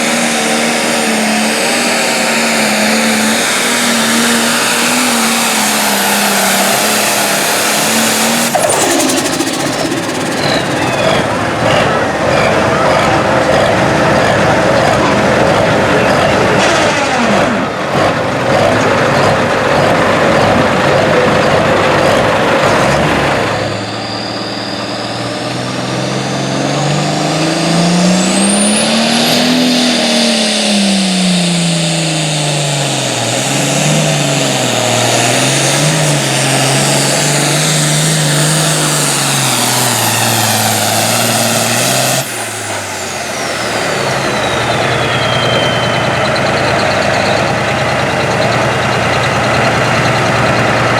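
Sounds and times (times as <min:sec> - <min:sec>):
high turbo whistle: 0:00.0 - 0:14.6, 0:23.3 - 0:32.2, 0:32.8 - 0:50.4
tractor engine at full throttle: 0:00.0 - 0:50.9.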